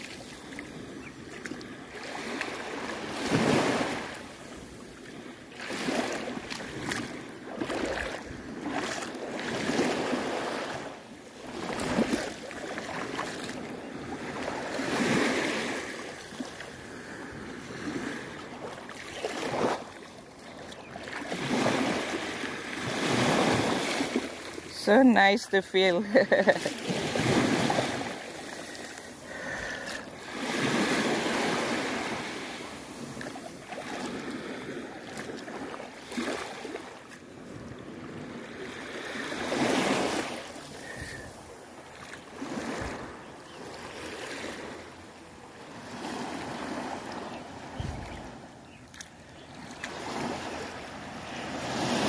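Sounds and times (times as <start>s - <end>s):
small waves washing on sand: 0.0s - 52.0s.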